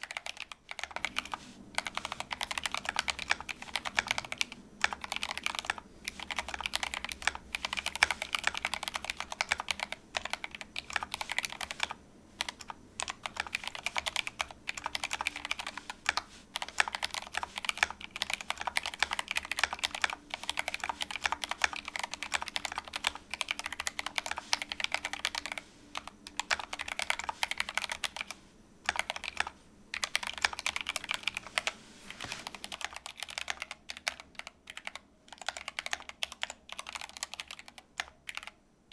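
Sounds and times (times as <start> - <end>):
fast typing on mechanical keyboard: 0.0 - 38.6.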